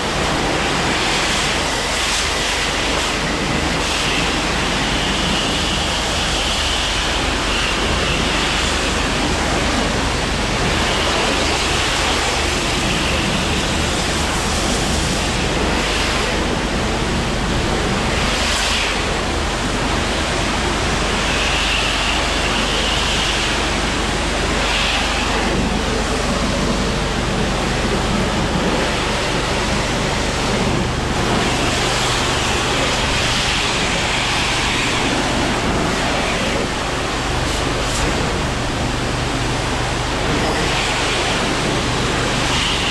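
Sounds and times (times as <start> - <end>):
low machine hum: 0.0 - 42.9
pressure washer spraying water: 0.0 - 42.9.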